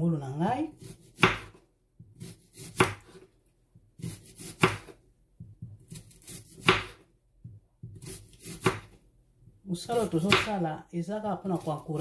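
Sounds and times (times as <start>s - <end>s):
knife slicing onion: 0.4s - 9.0s, 9.6s - 10.7s, 11.3s - 12.0s.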